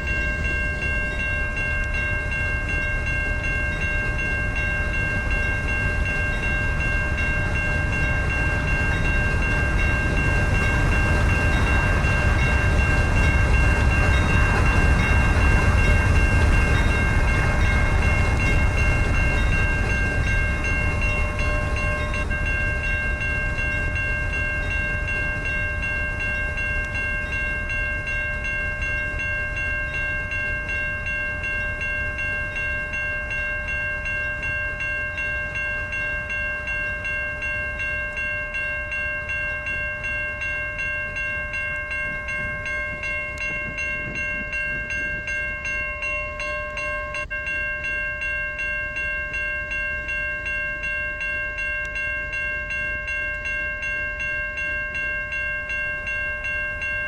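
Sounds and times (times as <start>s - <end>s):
freight train rumbling past: 0.0s - 56.6s
railroad crossing bell ringing: 0.0s - 57.0s.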